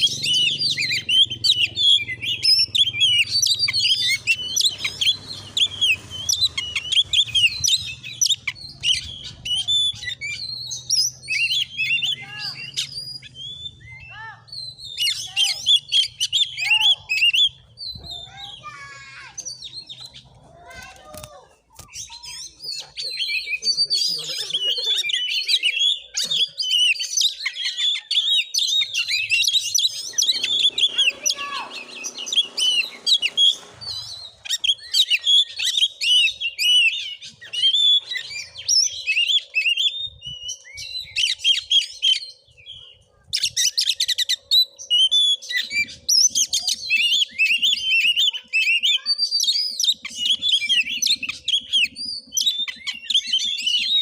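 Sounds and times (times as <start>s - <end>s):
bird singing chirps and whistles: 0.0s - 20.3s, 21.8s - 54.0s.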